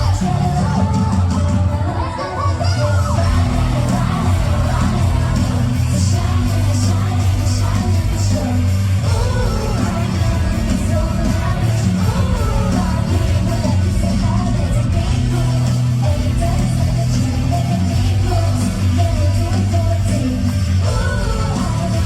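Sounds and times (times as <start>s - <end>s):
bass-heavy backing track: 0.0s - 22.0s
person singing: 0.0s - 22.0s.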